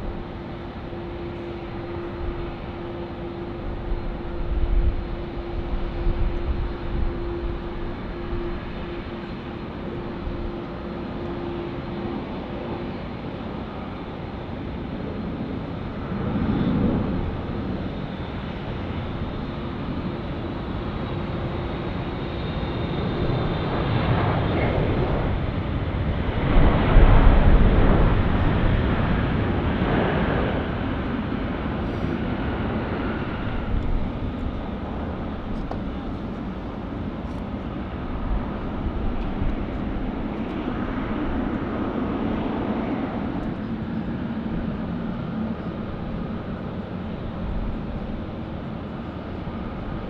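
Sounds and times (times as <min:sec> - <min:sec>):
jet engine noise: 0:00.0 - 0:50.0.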